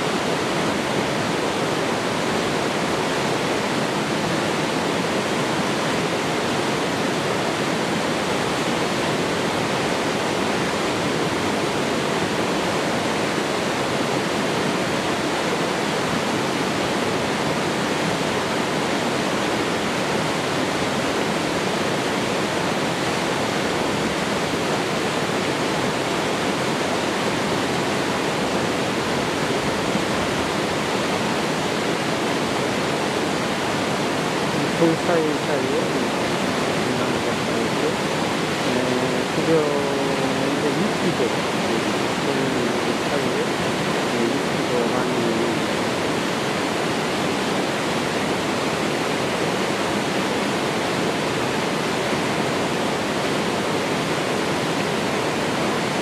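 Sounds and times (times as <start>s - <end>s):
waterfall rushing into pool: 0.0s - 56.0s.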